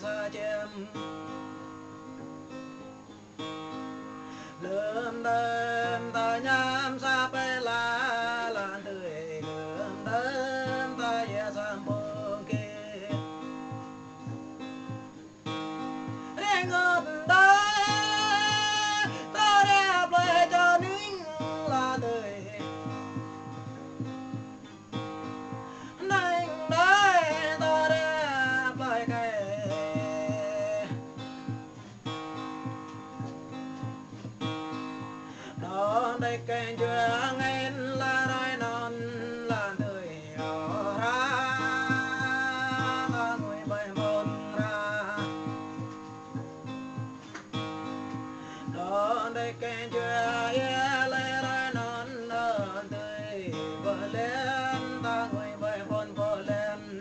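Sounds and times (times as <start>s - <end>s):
person singing: 0.0s - 1.6s, 4.3s - 14.0s, 16.0s - 24.4s, 25.0s - 47.1s, 48.1s - 57.0s
acoustic guitar: 0.0s - 57.0s.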